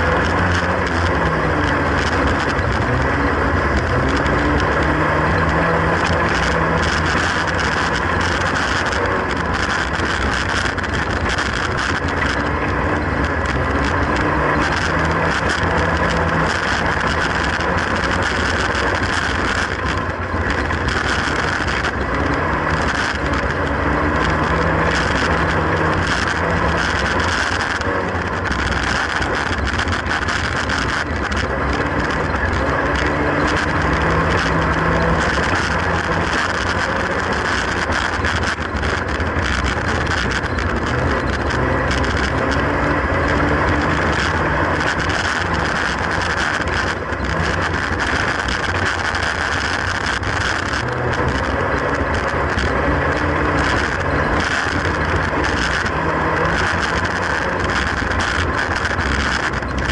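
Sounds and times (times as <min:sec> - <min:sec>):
car engine revving hard: 0:00.0 - 0:59.9
wind and road noise: 0:00.0 - 0:59.9.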